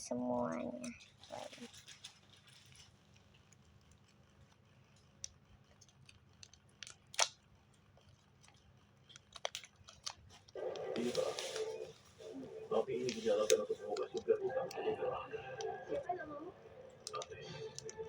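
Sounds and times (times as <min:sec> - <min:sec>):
packaging clicks and crackles: 0:00.9 - 0:16.1, 0:16.9 - 0:18.0.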